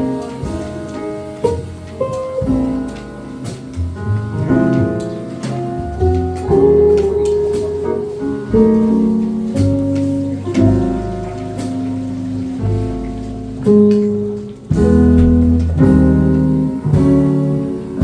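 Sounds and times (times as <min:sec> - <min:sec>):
bass notes: 0:00.0 - 0:18.0
slow jazz tune: 0:00.0 - 0:18.0.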